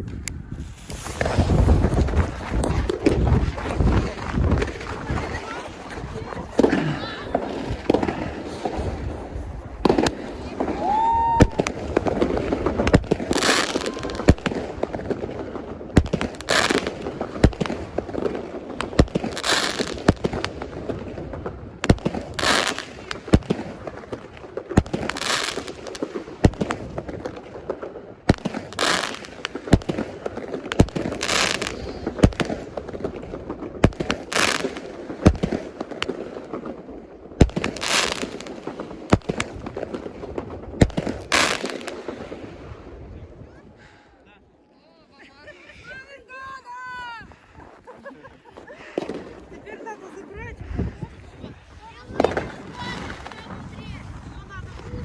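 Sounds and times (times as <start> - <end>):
fireworks sharp bangs: 0.0 - 43.1, 48.4 - 50.8, 51.5 - 55.0
fireworks hissing and crackling: 0.0 - 44.7, 45.5 - 55.0.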